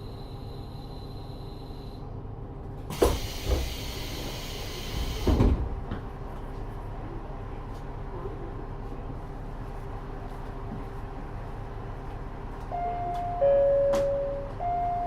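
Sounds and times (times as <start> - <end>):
idling diesel engine rumble: 0.0 - 15.0.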